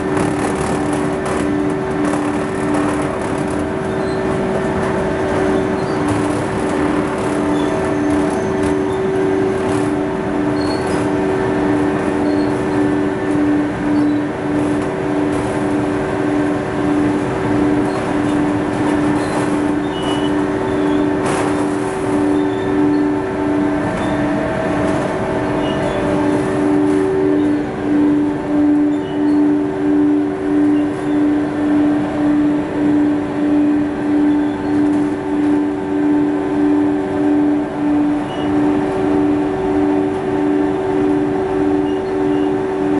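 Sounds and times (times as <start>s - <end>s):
textile tearing machine running: 0.0s - 41.8s.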